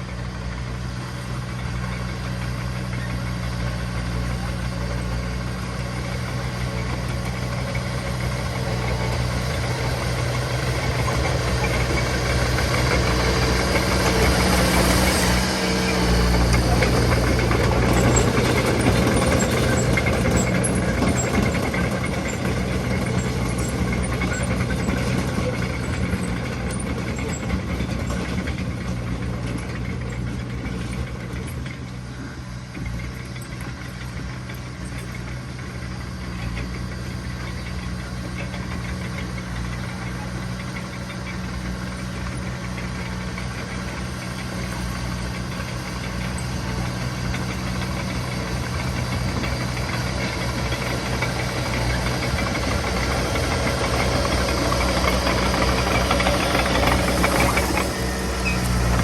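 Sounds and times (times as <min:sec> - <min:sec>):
diesel construction machinery running: 0:00.0 - 0:59.0.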